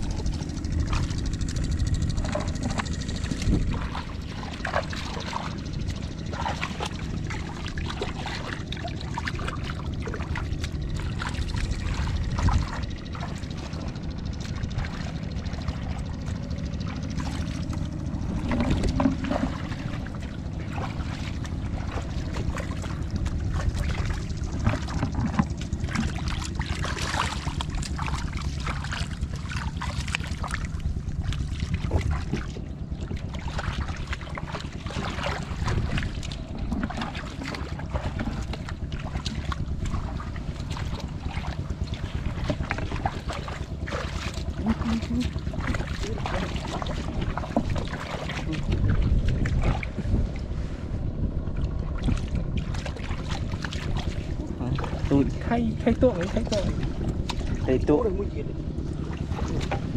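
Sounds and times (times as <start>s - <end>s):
splashing in muddy water: 0.0s - 59.9s
wind rumbling on microphone: 0.0s - 59.9s.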